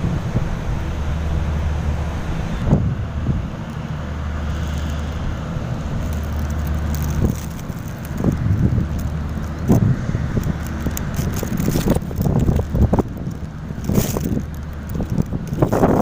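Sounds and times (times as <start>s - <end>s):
low engine drone: 0.0s - 16.0s
noisy rush: 0.0s - 16.0s.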